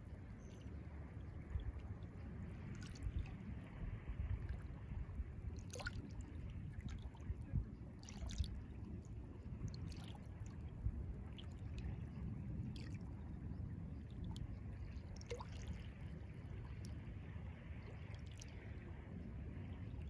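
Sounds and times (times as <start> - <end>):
small splashes and drips: 0.4 - 13.3, 14.0 - 17.1, 17.8 - 18.8.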